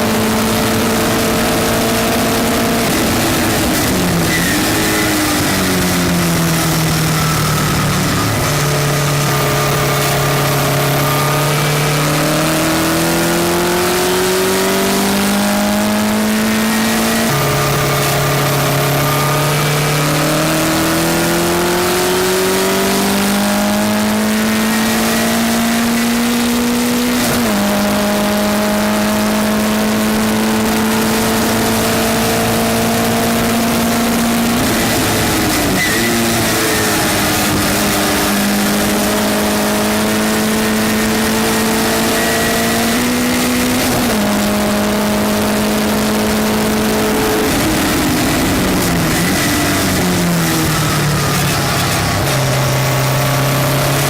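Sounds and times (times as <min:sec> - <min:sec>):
race car engine accelerating: 0:00.0 - 0:54.0
wind and road noise: 0:00.0 - 0:54.0.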